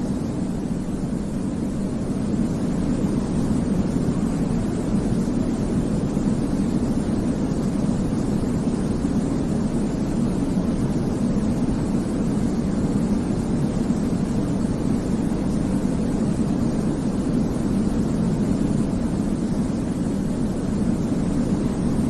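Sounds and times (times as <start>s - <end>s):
low rumbling white noise: 0.0s - 22.0s.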